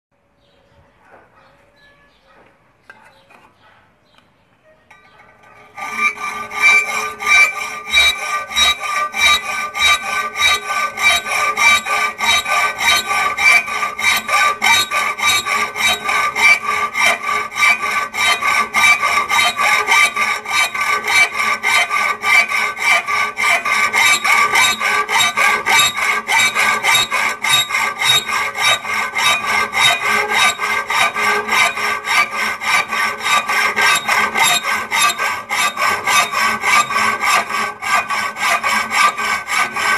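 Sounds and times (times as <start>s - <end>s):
hacksaw rasping on metal: 4.9s - 39.9s.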